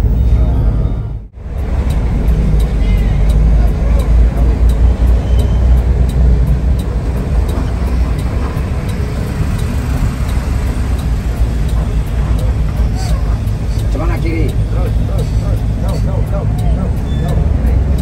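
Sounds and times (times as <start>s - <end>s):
bus engine and road rumble: 0.0s - 18.0s
faint regular tick: 1.6s - 18.0s.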